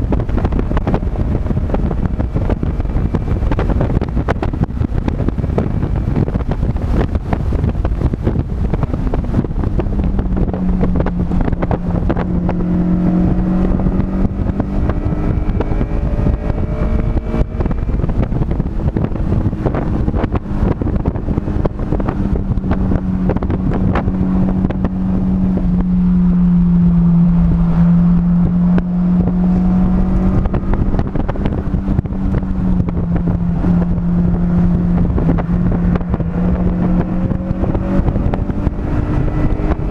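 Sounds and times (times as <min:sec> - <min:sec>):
car engine running hard: 0:00.0 - 0:39.9
road rumble: 0:00.0 - 0:39.9
wind buffeting microphone: 0:00.0 - 0:39.9.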